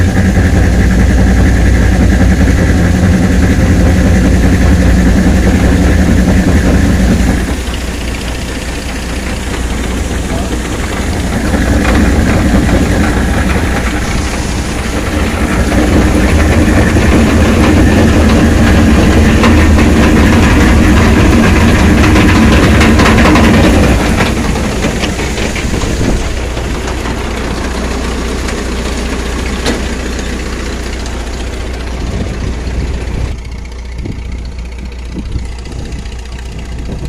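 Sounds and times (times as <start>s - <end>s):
tractor and combine drone: 0.0s - 37.0s.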